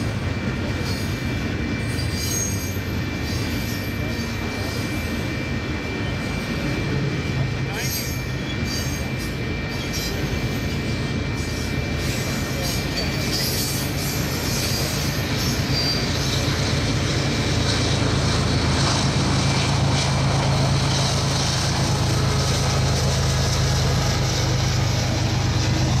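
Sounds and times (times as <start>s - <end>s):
locomotive engine drone: 0.0s - 26.0s
train wheels rumbling on rail: 0.0s - 26.0s.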